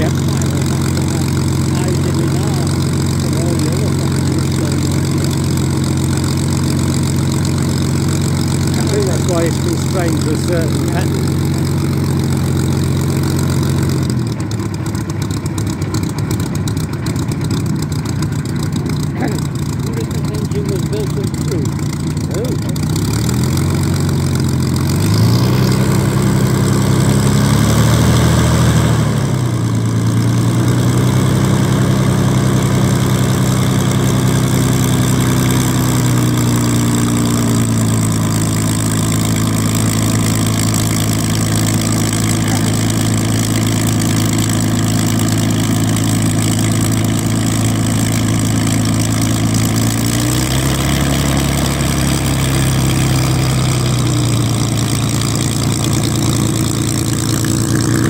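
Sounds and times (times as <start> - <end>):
propeller aircraft engine running: 0.0 - 58.0.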